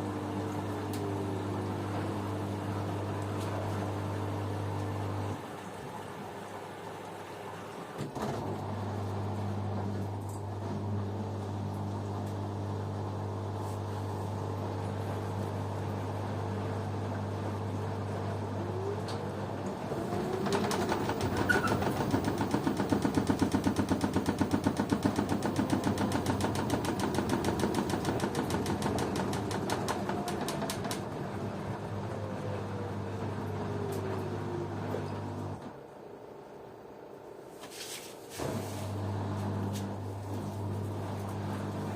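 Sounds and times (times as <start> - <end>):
washing machine running: 0.0 - 37.1, 38.3 - 41.9.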